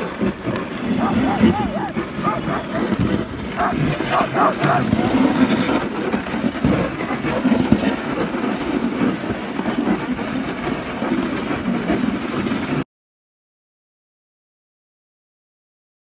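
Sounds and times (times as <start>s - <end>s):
sled runners scraping on snow: 0.0s - 12.8s
wooden sled frame rattling: 0.0s - 12.8s.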